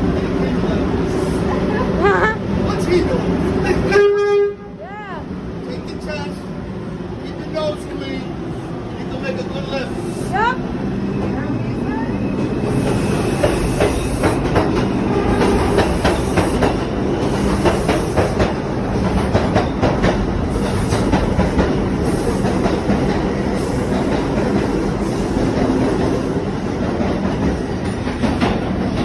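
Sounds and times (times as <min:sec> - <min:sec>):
subway wheels clattering over rail joints: 0:00.0 - 0:04.1, 0:05.3 - 0:29.0
train rumble: 0:00.0 - 0:29.0.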